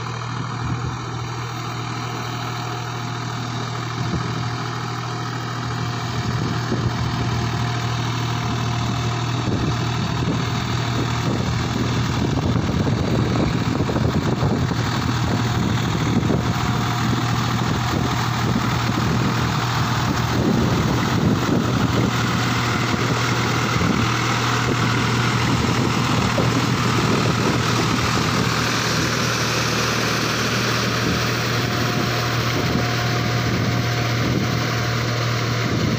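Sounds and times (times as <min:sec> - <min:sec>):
tractor diesel engine: 0:00.0 - 0:35.9.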